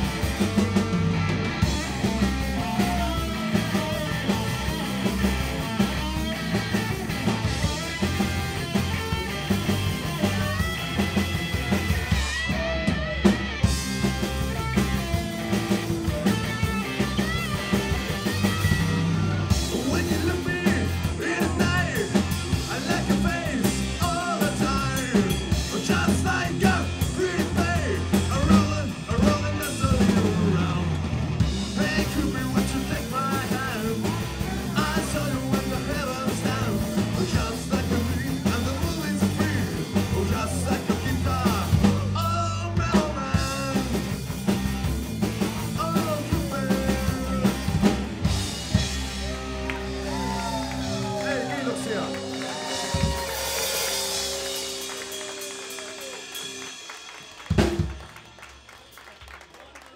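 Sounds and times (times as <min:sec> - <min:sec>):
pitch-bending guitar lead: 0:00.0 - 0:58.5
rock band playing: 0:00.0 - 0:59.9.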